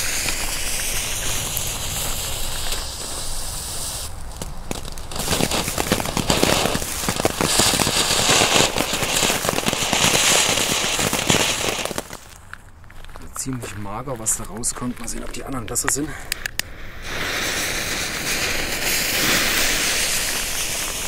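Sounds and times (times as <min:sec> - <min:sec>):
firework fountain hissing and crackling: 0:00.0 - 0:13.2, 0:14.2 - 0:21.0.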